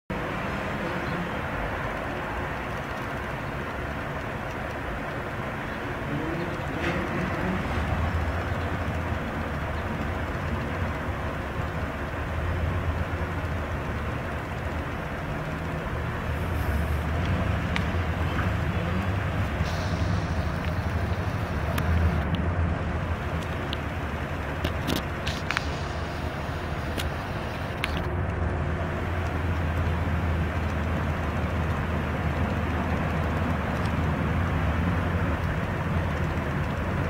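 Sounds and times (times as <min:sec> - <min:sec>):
outdoor background rumble and hiss: 0:00.1 - 0:37.0.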